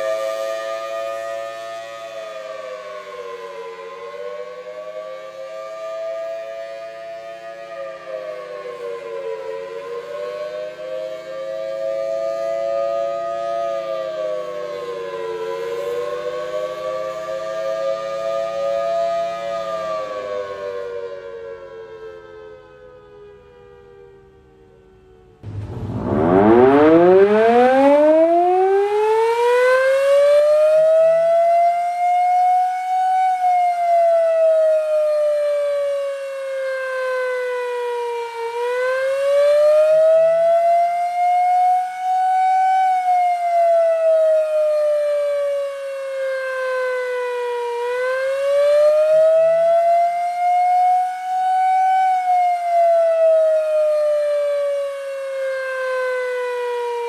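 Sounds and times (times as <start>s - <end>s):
warning siren wailing: 0.0s - 57.0s.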